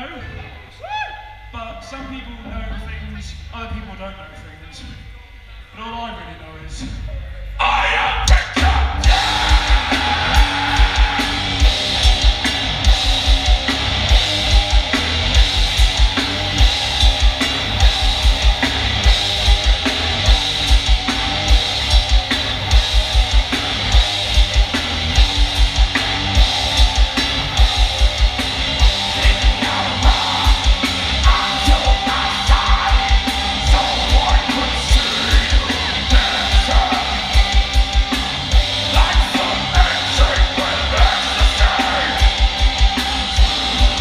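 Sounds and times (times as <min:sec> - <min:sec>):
loud guitars and bass: 0:00.0 - 0:44.0
rapid kick drum: 0:08.3 - 0:44.0.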